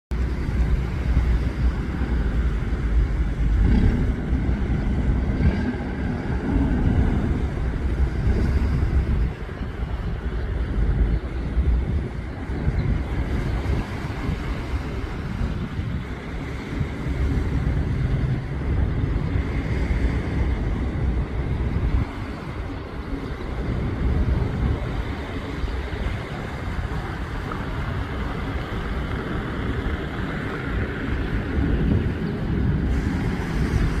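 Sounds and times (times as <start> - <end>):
motorboat engine running: 0.1 - 34.0
wind buffeting microphone: 0.1 - 34.0.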